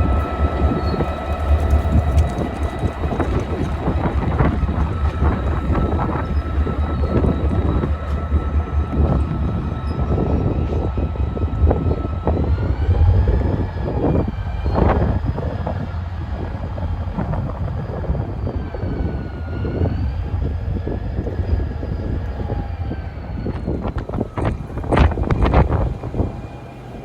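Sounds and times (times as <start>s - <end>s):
train motor whine: 0.0s - 27.0s
train rumble: 0.0s - 27.0s
wheels clicking over rail joints: 0.0s - 27.0s.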